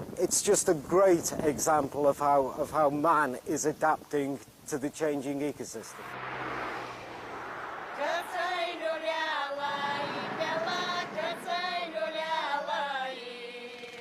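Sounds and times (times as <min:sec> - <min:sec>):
soft hiss: 0:00.0 - 0:14.0.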